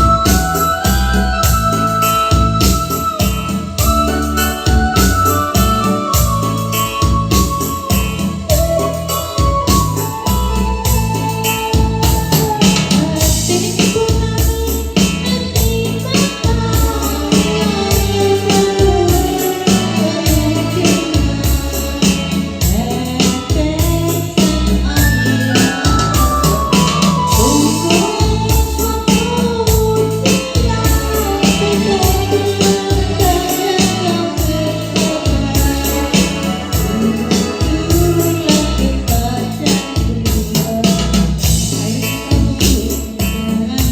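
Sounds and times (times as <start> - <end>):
music with dense beat: 0.0 - 43.9.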